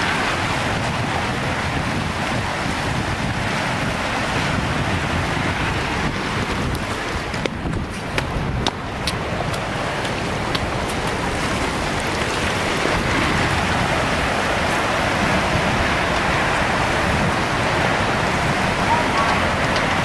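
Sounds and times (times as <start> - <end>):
floodwater roaring: 0.0 - 20.0.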